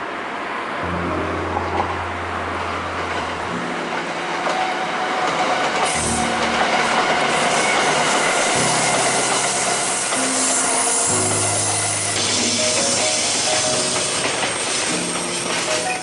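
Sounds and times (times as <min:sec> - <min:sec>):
train wheels rumbling on rail: 0:01.5 - 0:16.0.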